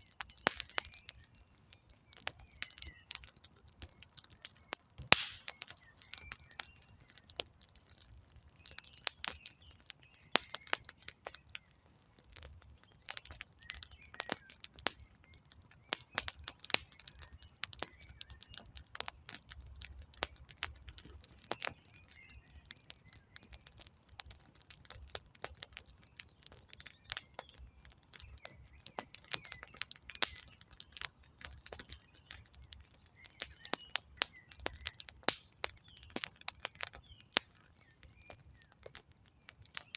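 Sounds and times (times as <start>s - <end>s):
campfire crackling and popping: 0.0s - 39.9s
faint birds chirping: 0.0s - 39.9s.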